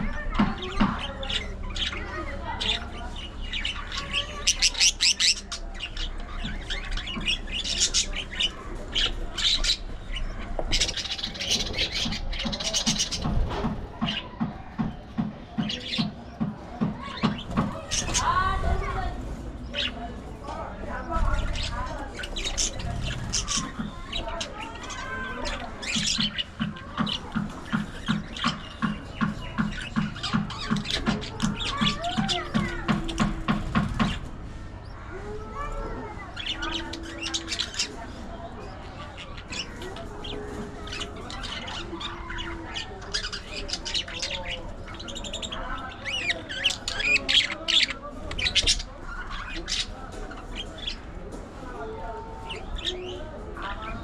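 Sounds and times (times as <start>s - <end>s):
budgerigars chirping and squawking: 0.0s - 51.4s, 52.0s - 54.0s.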